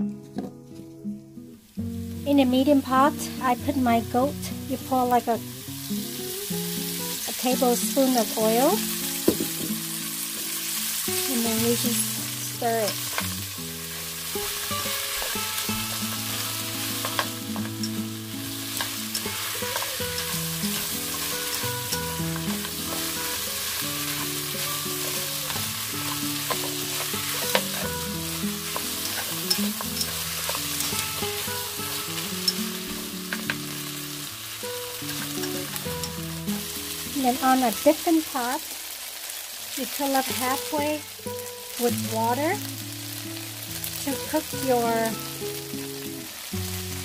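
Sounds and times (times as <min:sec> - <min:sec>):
meat sizzling in hot oil: 0:01.7 - 0:47.0.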